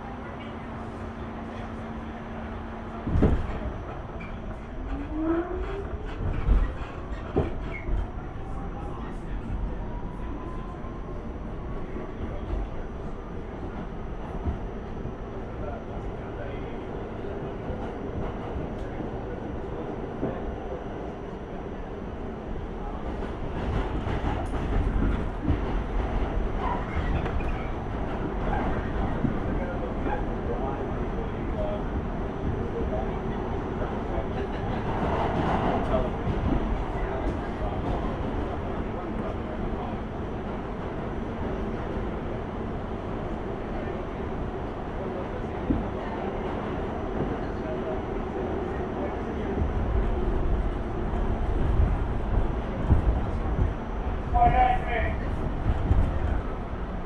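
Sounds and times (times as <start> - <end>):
subway train rumble: 0.0 - 57.0.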